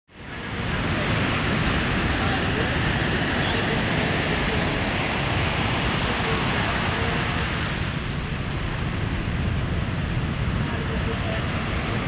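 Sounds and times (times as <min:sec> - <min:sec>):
sea surf on beach: 0:00.1 - 0:12.0
wind rumbling on microphone: 0:00.1 - 0:12.0.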